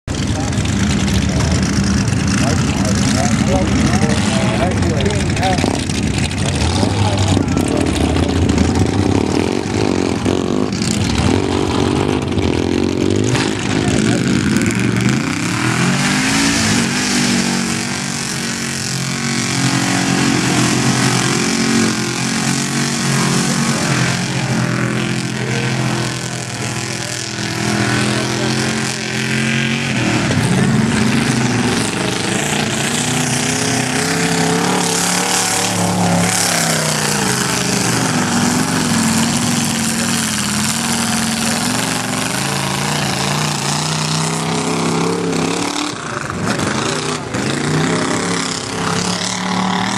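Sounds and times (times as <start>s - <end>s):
tires spinning in mud: 0.0s - 49.9s
engine revving hard: 0.1s - 49.9s.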